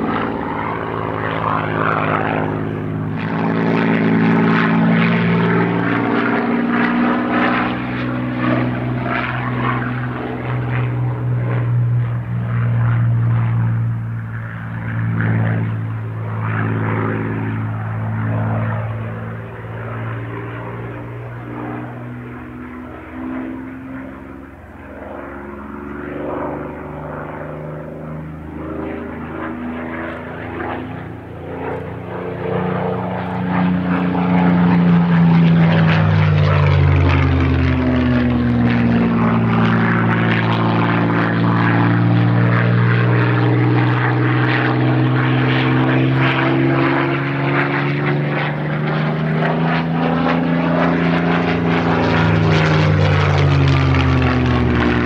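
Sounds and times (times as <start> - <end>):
propeller plane engine passing overhead: 0.0 - 55.0.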